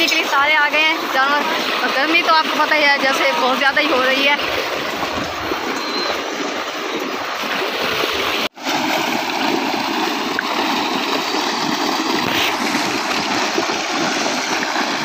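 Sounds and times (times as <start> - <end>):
water gushing into pool: 0.0 - 15.0.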